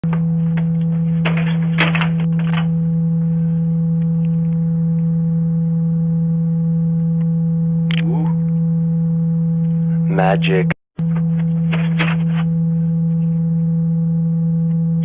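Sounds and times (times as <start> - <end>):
loud steady low hum: 0.0 - 15.0.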